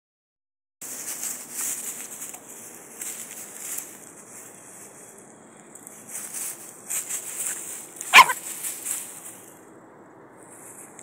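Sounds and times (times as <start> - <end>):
dry grass rustling and crackling: 0.8 - 9.8, 10.4 - 11.0.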